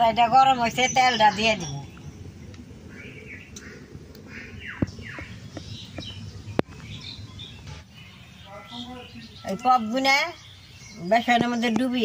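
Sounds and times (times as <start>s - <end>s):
birds chirping: 0.0s - 12.0s
downward-sweeping bird calls: 0.5s - 12.0s.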